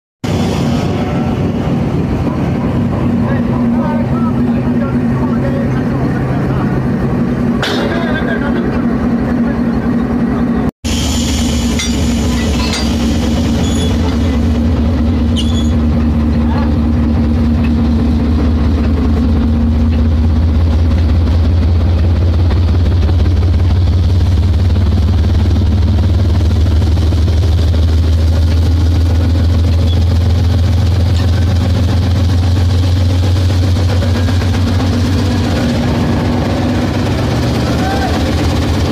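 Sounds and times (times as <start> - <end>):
railway engine humming: 0.2 - 38.9.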